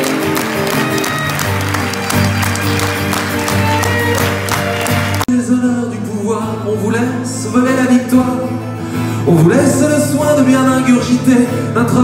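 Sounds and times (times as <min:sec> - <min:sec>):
strummed acoustic guitars: 0:00.0 - 0:12.0.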